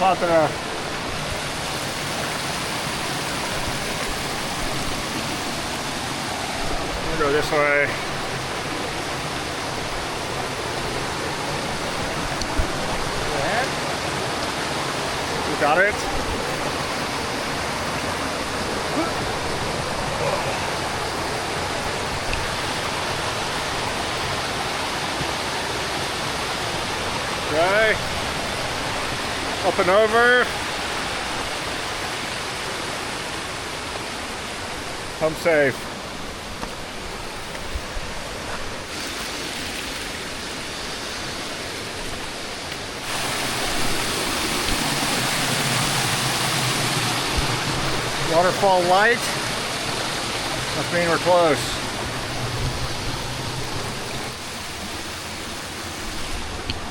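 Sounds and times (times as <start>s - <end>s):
stream water flowing: 0.0s - 56.9s.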